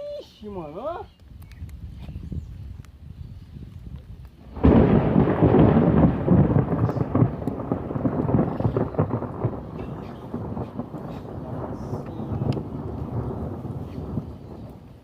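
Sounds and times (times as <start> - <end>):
rain hissing: 0.2 - 15.0
thunderclap and rumbling: 1.6 - 15.0.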